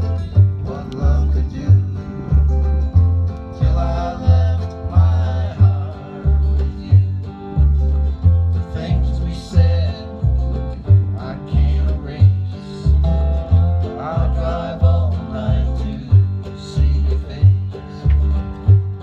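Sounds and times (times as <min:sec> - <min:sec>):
strummed acoustic guitars: 0:00.0 - 0:19.0
upright bass plucking: 0:00.0 - 0:19.0.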